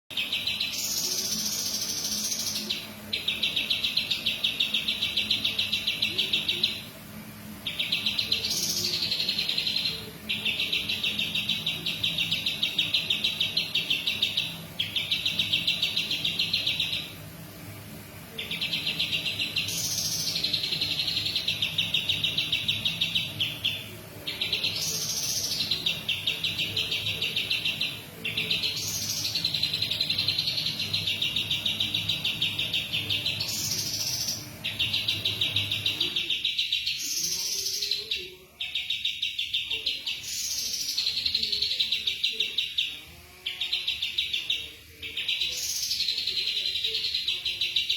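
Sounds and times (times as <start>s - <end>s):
songbird buzzy trills: 0.0s - 47.9s.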